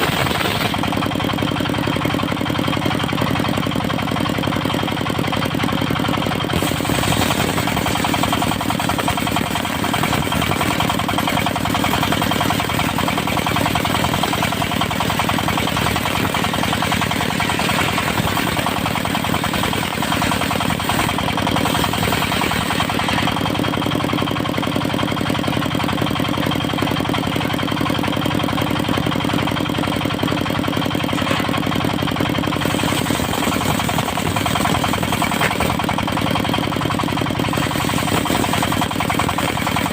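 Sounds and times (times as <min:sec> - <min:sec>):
sawmill engine knocking: 0:00.0 - 0:39.9.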